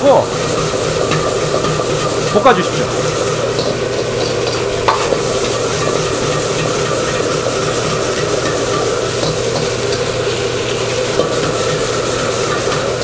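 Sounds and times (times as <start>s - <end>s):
gas burner hum: 0.0s - 13.0s
meat sizzling in a wok: 0.0s - 13.0s
ladle clanking on wok: 0.2s - 13.0s.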